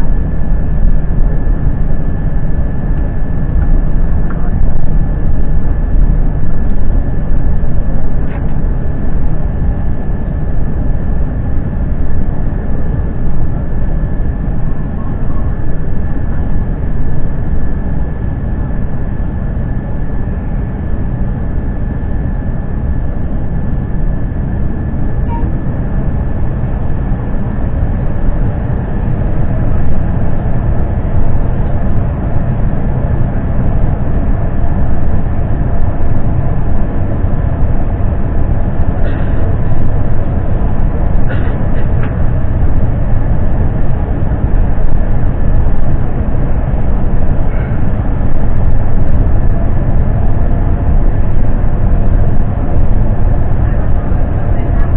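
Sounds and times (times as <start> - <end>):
airliner cabin rumble: 0.0 - 54.9
thin steady whine: 0.0 - 54.9.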